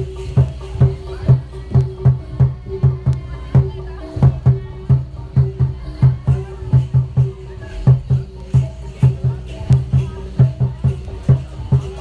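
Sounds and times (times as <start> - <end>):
heavy syncopated drum beat: 0.0 - 12.0
shaker rattling: 0.0 - 12.0.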